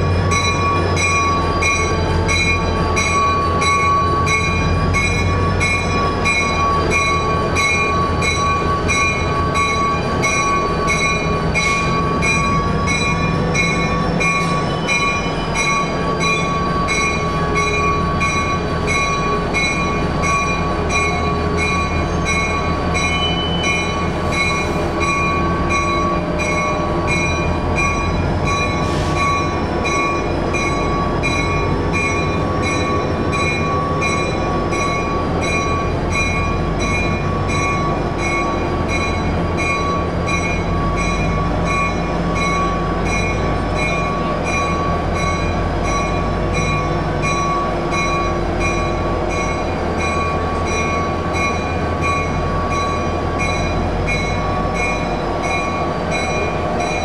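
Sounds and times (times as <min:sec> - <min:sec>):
train wheels rumbling: 0:00.0 - 0:57.0.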